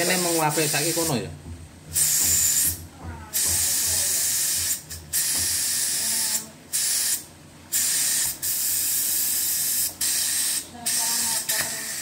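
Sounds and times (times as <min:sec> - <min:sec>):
pressure cooker valve hissing steam: 0:00.0 - 0:01.2, 0:02.0 - 0:12.0.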